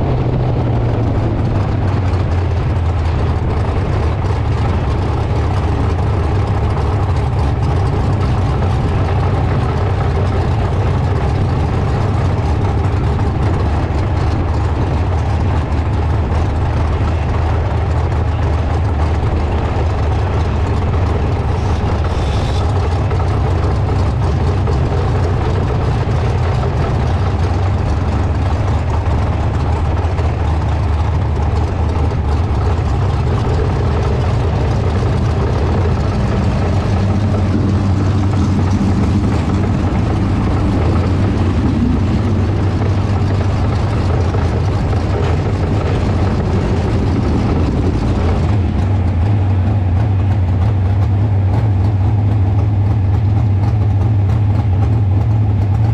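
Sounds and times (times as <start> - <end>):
car engine droning at low revs: 0.0 - 55.9.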